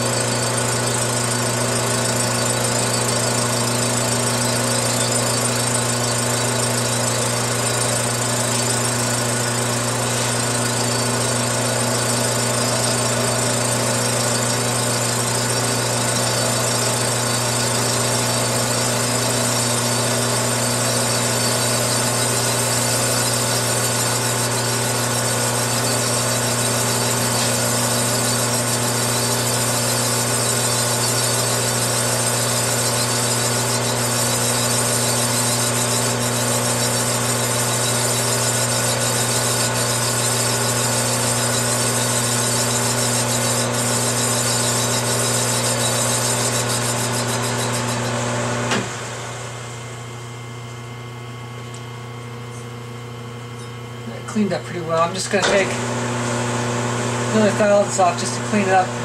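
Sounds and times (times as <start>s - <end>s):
lathe tool cutting metal: 0.0s - 50.4s, 53.1s - 59.0s
metal lathe running: 0.0s - 59.0s.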